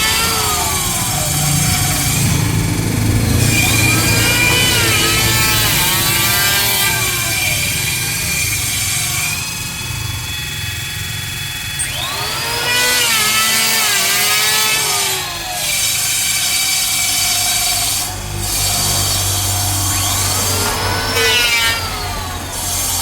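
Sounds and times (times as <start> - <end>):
power tool cutting wood: 0.0 - 23.0.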